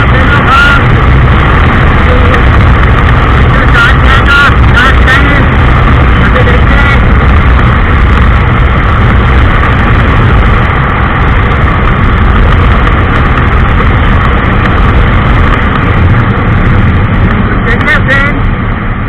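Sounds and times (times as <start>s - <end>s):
motorcycle engine running: 0.0s - 19.0s
wind buffeting microphone: 0.0s - 19.0s.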